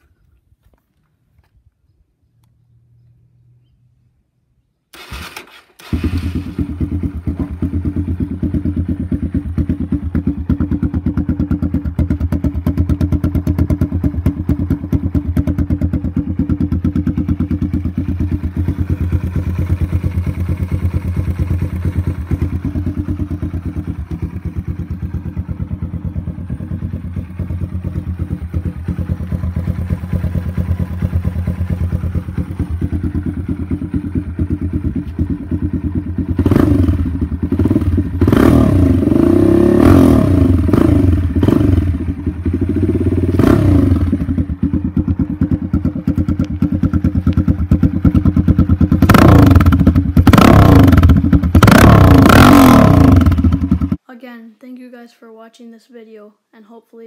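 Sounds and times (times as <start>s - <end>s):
motorcycle engine starting and idling: 4.8s - 54.0s.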